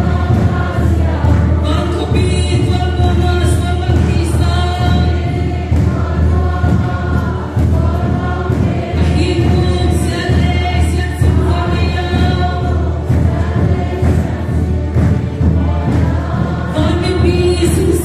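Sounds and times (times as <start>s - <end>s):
choir singing a hymn: 0.0s - 18.0s
musical accompaniment: 0.0s - 18.0s.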